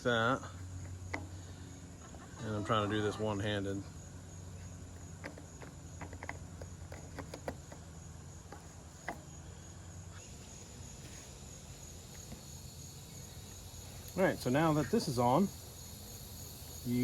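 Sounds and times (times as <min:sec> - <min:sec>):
insects chirring: 0:00.0 - 0:17.0
low steady hum: 0:00.0 - 0:17.0.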